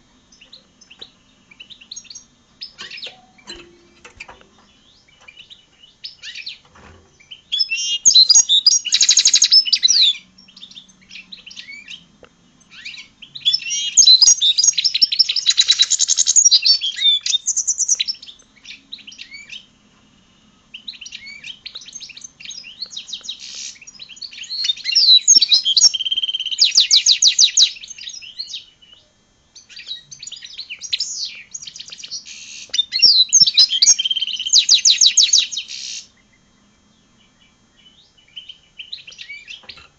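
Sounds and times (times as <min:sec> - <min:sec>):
finch singing twittering trills: 0:00.3 - 0:19.8, 0:20.7 - 0:39.9.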